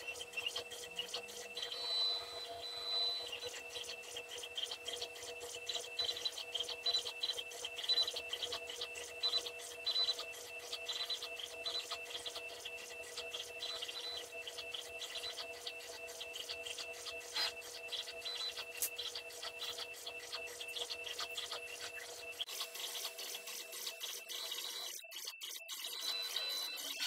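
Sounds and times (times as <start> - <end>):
stepper motors whining: 0.0 - 27.0.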